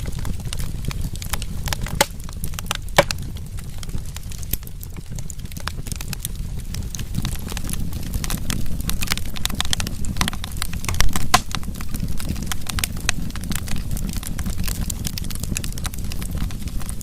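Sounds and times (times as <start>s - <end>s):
fire pops and snaps: 0.0s - 17.0s
flames rushing: 0.0s - 17.0s.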